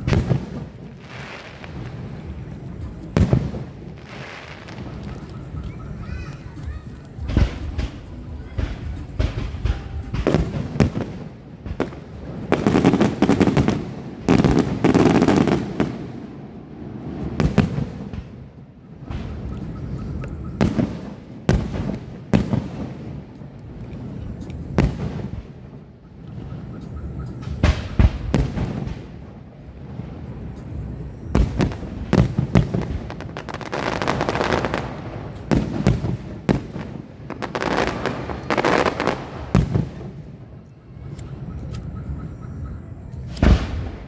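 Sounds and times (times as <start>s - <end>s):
fireworks bursting in sharp bangs: 0.0s - 19.9s, 20.5s - 23.3s, 24.7s - 25.8s, 27.4s - 30.6s, 31.3s - 40.4s, 43.3s - 44.0s.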